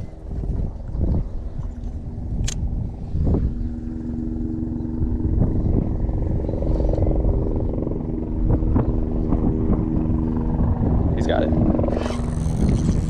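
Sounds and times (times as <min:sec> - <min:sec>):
steady engine-like hum: 0:00.0 - 0:13.0
wind buffeting microphone: 0:00.0 - 0:13.0.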